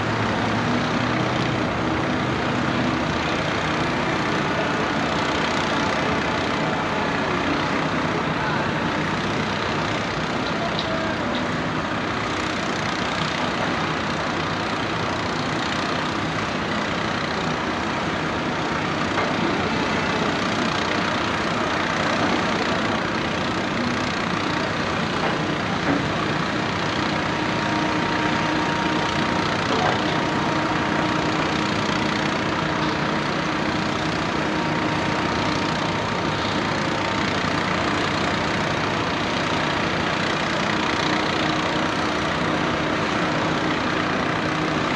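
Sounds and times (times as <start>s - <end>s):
excavator diesel engines drilling: 0.0s - 44.9s.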